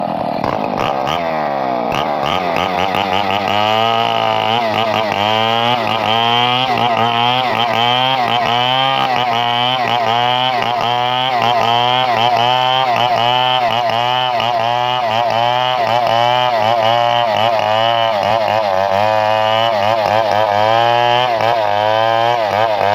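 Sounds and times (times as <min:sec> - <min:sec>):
chainsaw engine running hard: 0:00.0 - 0:22.9.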